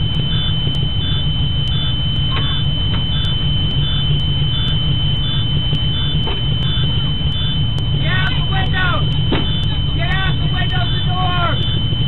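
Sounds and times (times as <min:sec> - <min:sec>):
constant low rumble: 0:00.0 - 0:12.0
electronic warning beeps: 0:00.0 - 0:12.0
steady high tone: 0:00.0 - 0:12.0.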